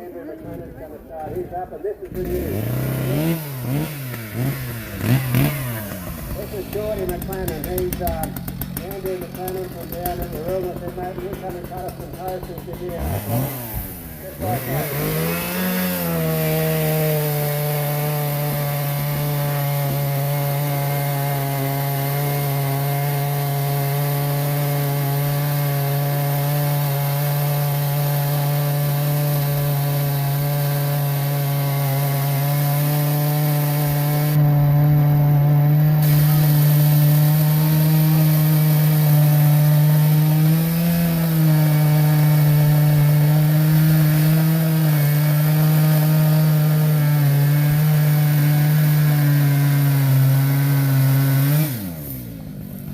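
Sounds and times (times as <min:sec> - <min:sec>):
engine-driven saw cutting timber: 0:00.0 - 0:52.9.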